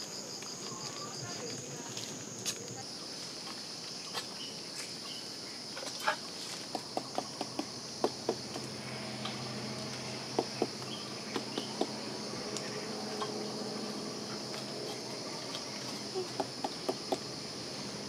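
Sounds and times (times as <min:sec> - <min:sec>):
insects buzzing high-pitched: 0:00.0 - 0:18.0.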